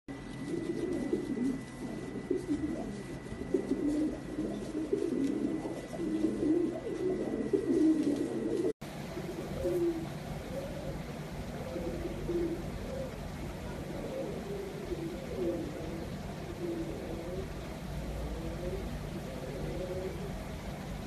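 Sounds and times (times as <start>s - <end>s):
pigeons cooing: 0.1s - 21.0s.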